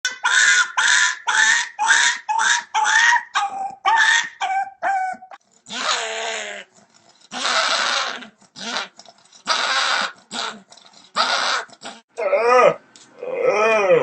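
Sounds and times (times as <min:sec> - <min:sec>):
dog making raspy calls: 0:00.1 - 0:12.1.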